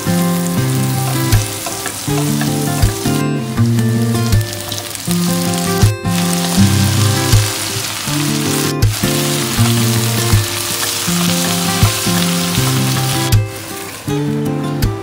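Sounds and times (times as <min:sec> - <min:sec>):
spatula turning food: 0:00.0 - 0:14.0
food sizzling in a pan: 0:00.0 - 0:14.4
background music with low notes: 0:00.0 - 0:15.0.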